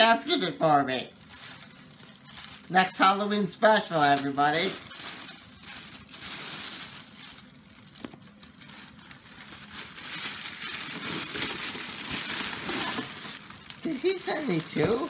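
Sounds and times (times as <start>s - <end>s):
packaging rustling and crinkling: 1.0s - 15.0s.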